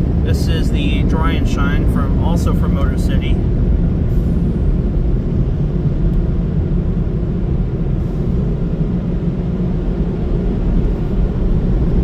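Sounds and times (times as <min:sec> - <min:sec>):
car wash dryer blowers: 0:00.0 - 0:12.0.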